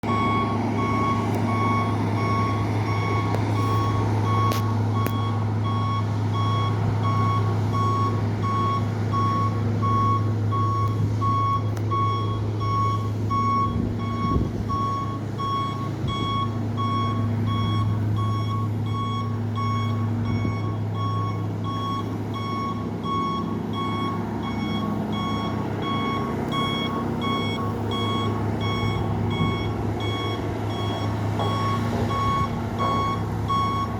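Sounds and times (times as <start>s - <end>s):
reversing alarm beeping: 0.0s - 33.9s
truck engine humming: 0.0s - 33.9s.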